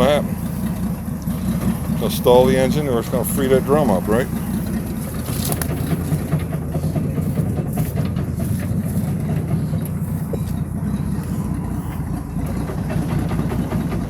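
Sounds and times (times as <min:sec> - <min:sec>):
van engine idling: 0:00.0 - 0:14.0.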